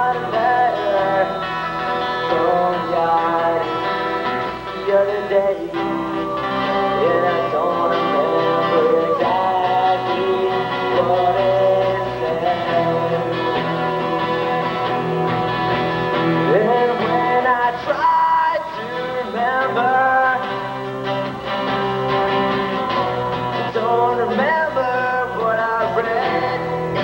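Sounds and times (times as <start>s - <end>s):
acoustic guitar: 0.0s - 27.0s
man singing: 0.0s - 27.0s.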